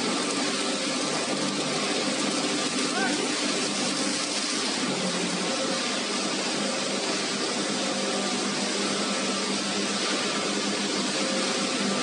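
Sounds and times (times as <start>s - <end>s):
motor hum: 0.0s - 12.0s
water churning and splashing: 0.0s - 12.0s.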